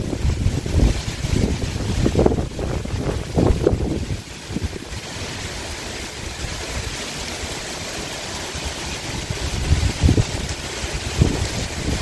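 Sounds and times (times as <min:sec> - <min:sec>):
steady rain hiss: 0:00.0 - 0:12.0
wind buffeting microphone: 0:00.0 - 0:12.0.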